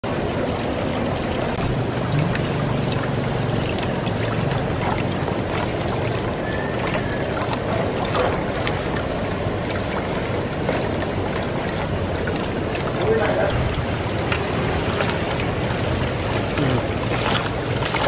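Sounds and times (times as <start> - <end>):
water rushing and churning in a tank: 0.0 - 18.0
low hum: 1.0 - 16.7.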